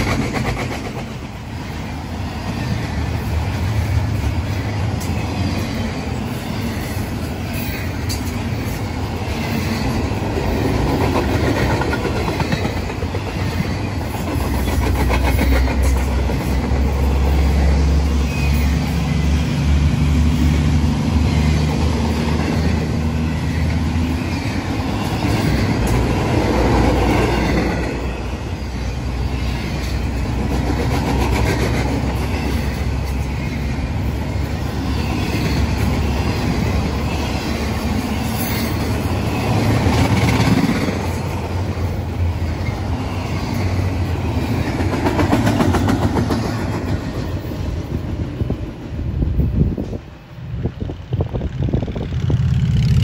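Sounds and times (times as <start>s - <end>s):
freight train rumbling and rattling: 0.0s - 53.0s.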